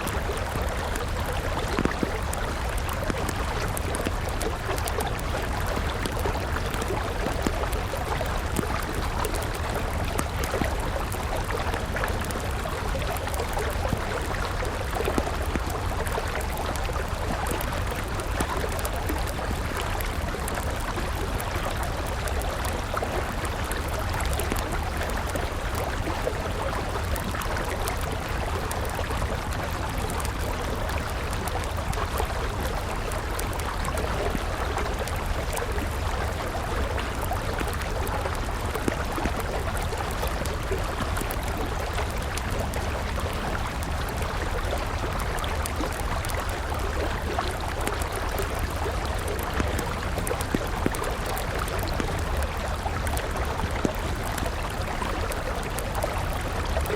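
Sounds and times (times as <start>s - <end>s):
river flowing: 0.0s - 56.9s
campfire crackling: 0.1s - 56.9s.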